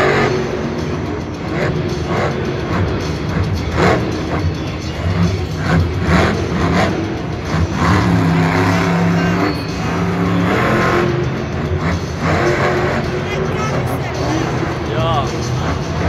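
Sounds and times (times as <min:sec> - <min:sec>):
monster truck engine revving: 0:00.0 - 0:13.5, 0:14.1 - 0:16.0.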